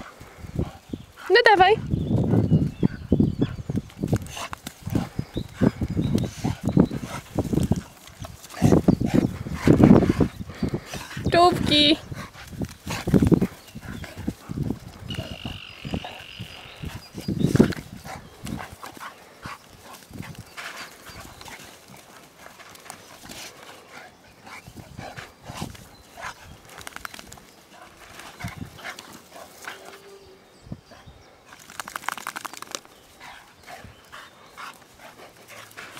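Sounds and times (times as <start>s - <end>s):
dogs growling and snarling: 1.9s - 35.9s.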